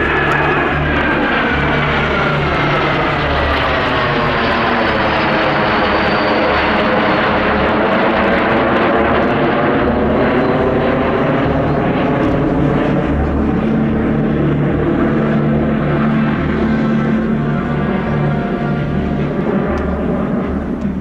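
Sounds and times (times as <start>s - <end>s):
jets passing overhead: 0.0s - 21.0s.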